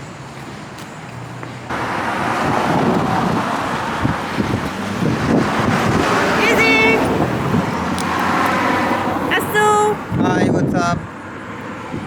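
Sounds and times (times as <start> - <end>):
traffic rumble: 0.0 - 12.0
wind buffeting microphone: 1.7 - 12.0.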